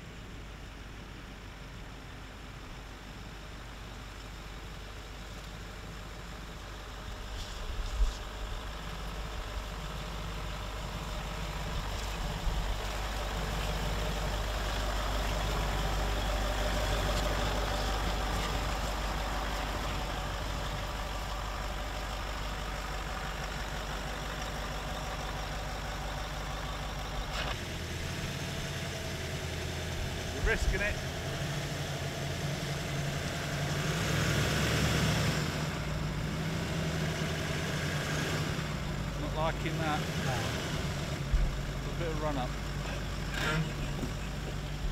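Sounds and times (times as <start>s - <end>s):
suv engine running at low speed: 0.0s - 44.9s.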